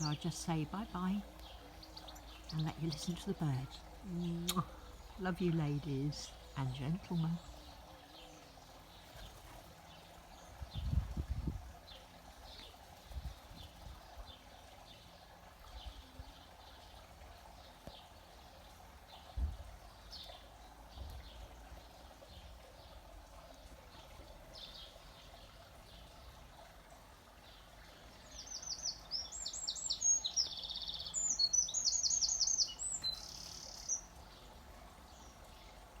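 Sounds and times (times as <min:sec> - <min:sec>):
songbird singing: 0:00.0 - 0:23.0, 0:23.9 - 0:26.7, 0:27.4 - 0:36.0.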